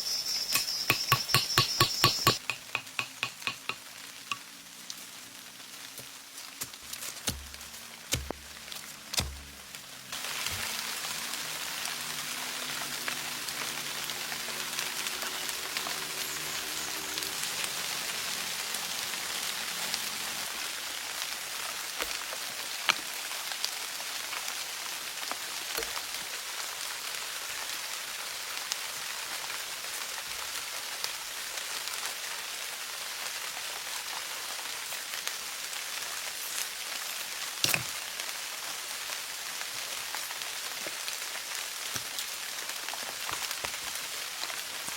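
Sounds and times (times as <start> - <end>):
rain falling: 2.3 - 44.9.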